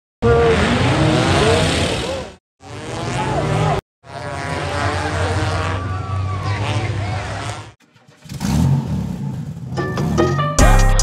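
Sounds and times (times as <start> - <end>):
race car engines revving and passing: 0.2 - 10.6.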